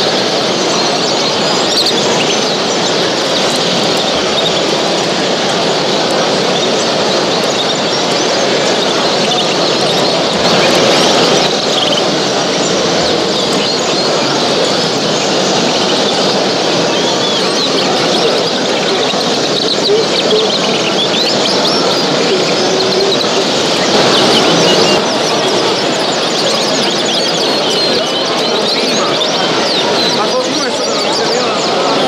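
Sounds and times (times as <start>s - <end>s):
birds chirping and singing: 0.0s - 32.0s
hubbub of people: 0.0s - 32.0s.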